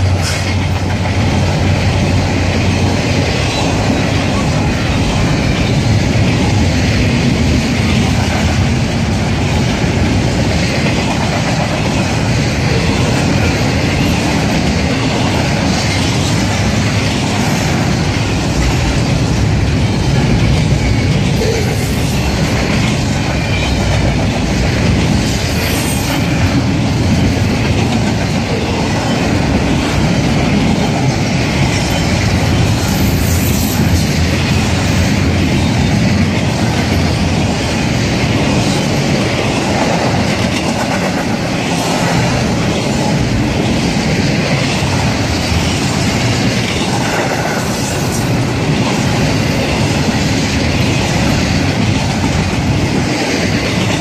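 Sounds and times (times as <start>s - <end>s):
freight train wagons rumbling: 0.0s - 54.0s
wheels clacking over rails: 0.0s - 54.0s.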